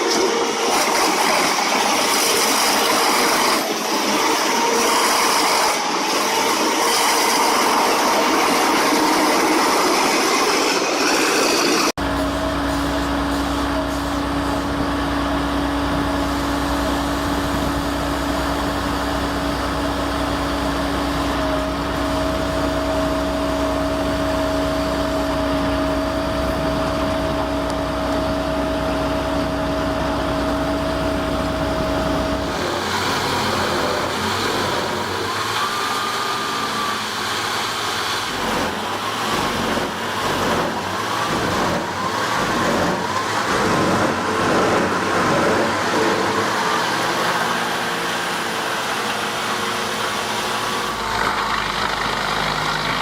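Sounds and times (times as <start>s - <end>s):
heavy machinery engine humming: 0.0s - 53.0s
uneven machine noise with whine: 0.0s - 53.0s.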